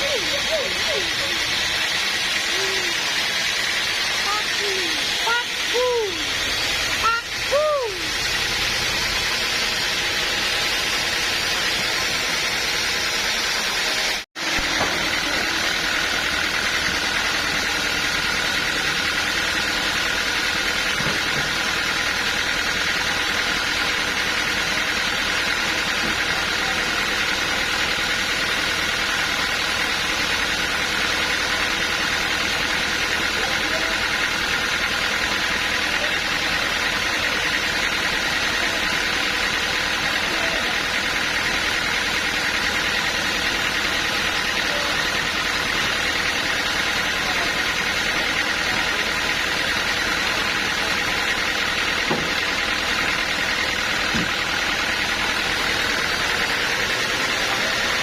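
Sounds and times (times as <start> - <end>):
machinery whine: 0.0 - 58.0
sawmill machinery drone: 0.0 - 58.0.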